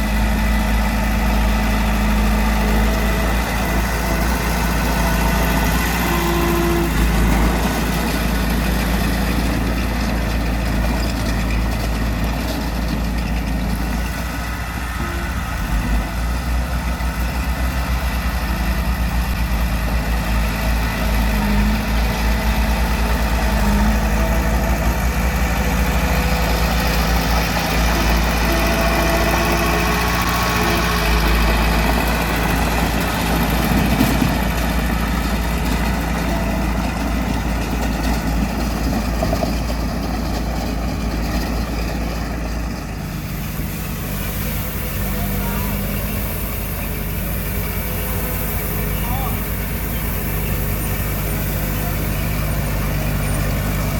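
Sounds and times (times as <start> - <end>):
heavy machinery diesel engine running: 0.0 - 53.9.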